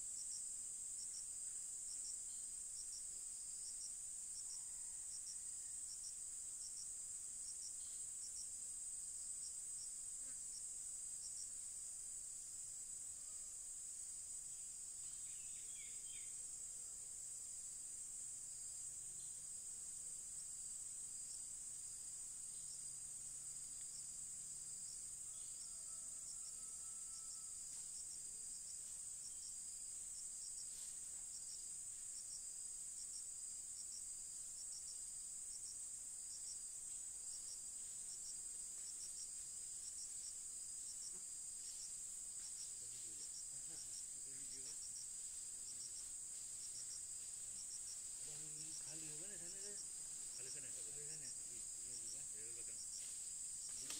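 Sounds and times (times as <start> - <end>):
insects droning: 0.0 - 53.9
insect chirping in pulses: 0.1 - 53.9.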